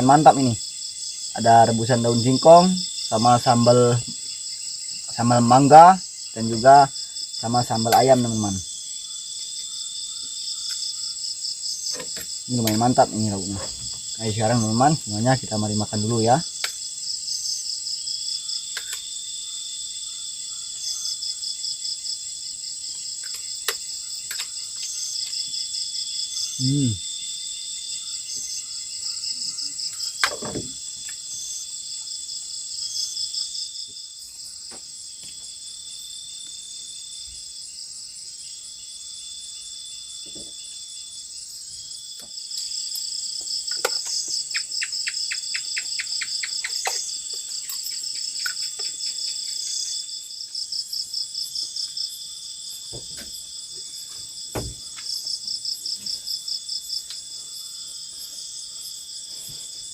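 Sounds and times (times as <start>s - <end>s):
crickets trilling: 0.0s - 59.9s
lower insect chirp: 0.0s - 59.9s.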